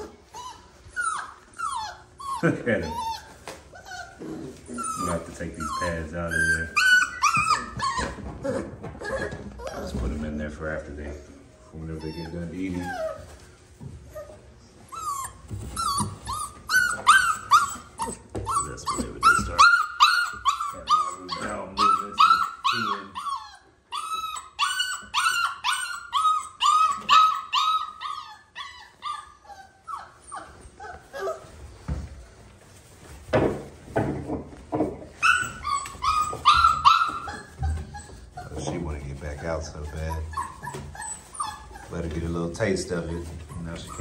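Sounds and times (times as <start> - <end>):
puppies whining and yipping: 0.0 - 33.3, 35.0 - 44.0.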